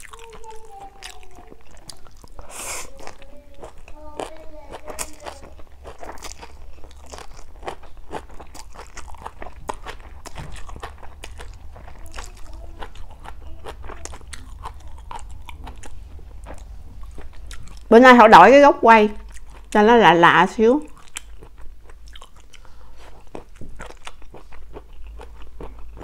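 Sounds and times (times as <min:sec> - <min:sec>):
chewing with crisp crunches: 0:00.0 - 0:17.9, 0:19.1 - 0:19.8, 0:20.8 - 0:26.0.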